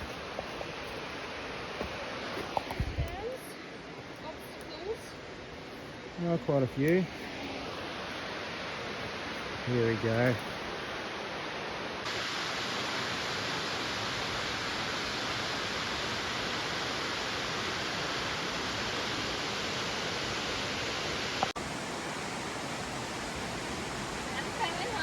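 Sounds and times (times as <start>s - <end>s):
waterfall rushing hiss: 0.0s - 25.0s.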